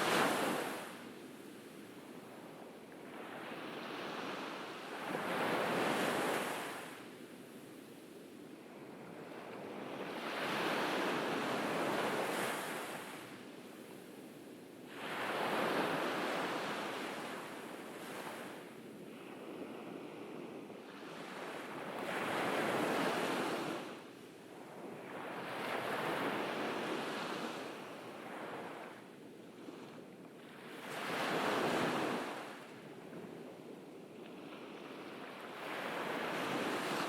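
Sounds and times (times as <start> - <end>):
ocean waves breaking on beach: 0.0 - 7.2, 8.7 - 37.0.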